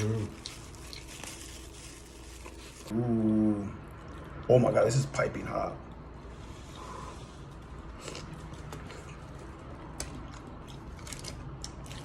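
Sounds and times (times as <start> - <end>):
faint eating sounds: 0.0 - 12.0
low background hum: 0.0 - 12.0.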